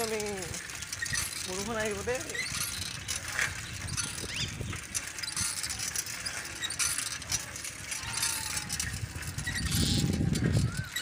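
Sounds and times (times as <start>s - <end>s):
bicycle rattling: 0.0s - 11.0s
wind rumble on microphone: 0.1s - 6.0s, 7.4s - 11.0s.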